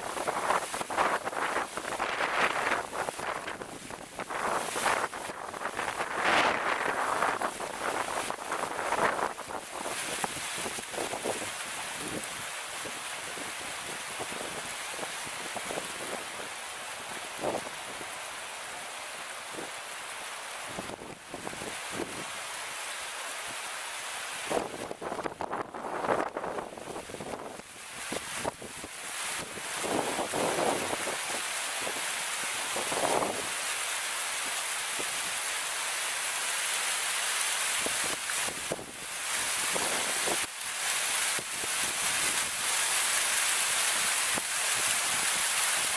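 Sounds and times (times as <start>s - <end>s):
fountain jets splashing: 0.0s - 45.9s.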